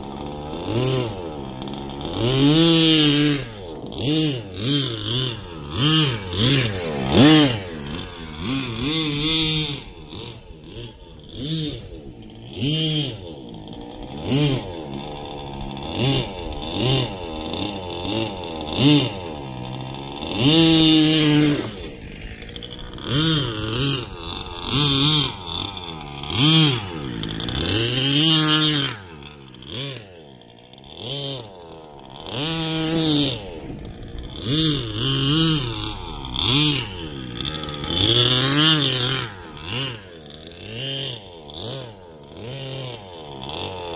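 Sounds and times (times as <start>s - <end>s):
small nitro engine revving: 0.0s - 43.9s.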